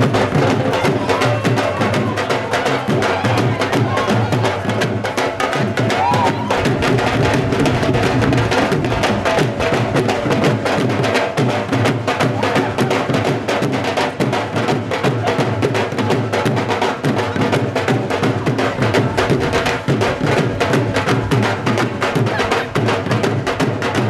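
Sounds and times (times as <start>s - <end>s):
dhol drums playing: 0.0s - 24.0s.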